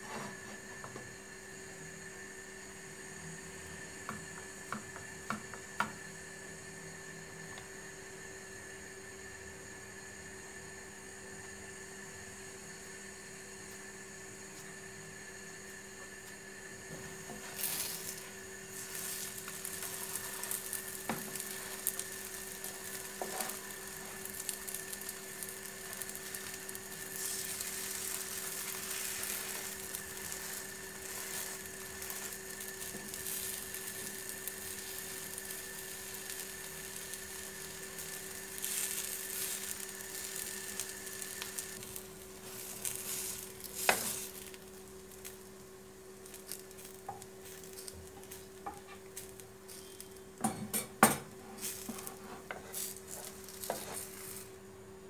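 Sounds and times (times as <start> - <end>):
faint steady hum: 0.0 - 55.0
food sizzling in a pan: 0.0 - 55.0.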